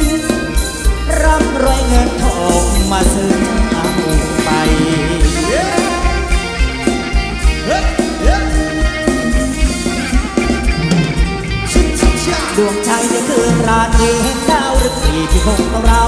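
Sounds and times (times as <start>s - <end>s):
drum kit steady beat: 0.0s - 16.0s
live band playing dance music: 0.0s - 16.0s.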